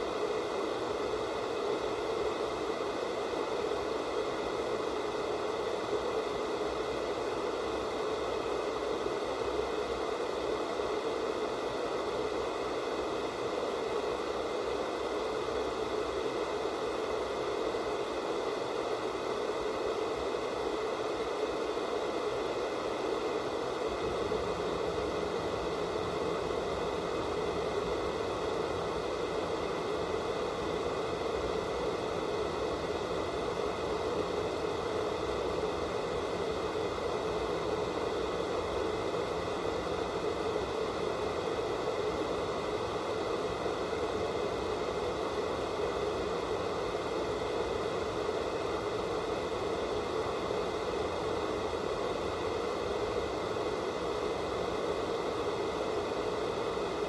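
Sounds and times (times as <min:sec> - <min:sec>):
faint high steady tones: 0:00.0 - 0:57.0
tv static hiss: 0:00.0 - 0:57.0.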